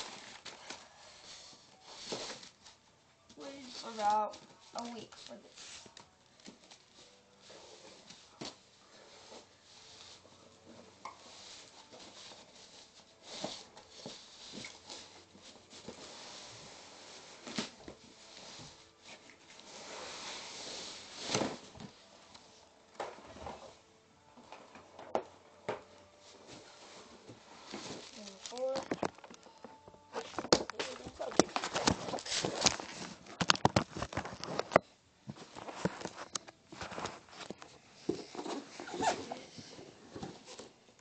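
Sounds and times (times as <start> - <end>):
packaging rustling and scraping: 0.0 - 2.8, 3.6 - 22.0, 26.0 - 40.8.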